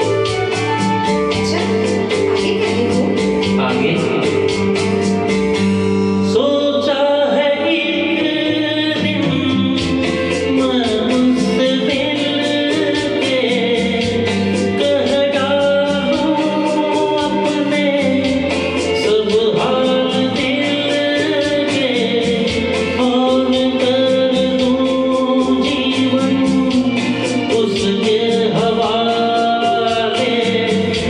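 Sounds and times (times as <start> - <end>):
instrumental accompaniment with beat: 0.0 - 31.0
person singing: 1.3 - 4.7, 6.0 - 31.0.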